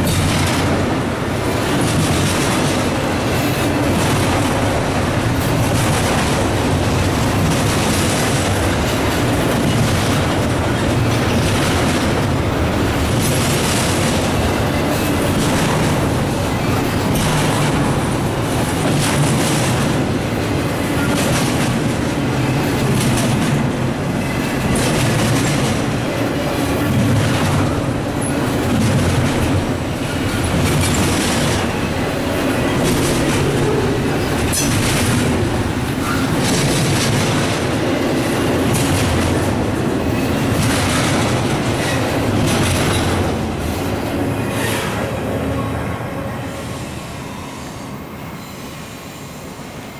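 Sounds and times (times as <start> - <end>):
train wheels clattering: 0.0 - 45.1
freight train wheels rumbling: 0.0 - 49.9.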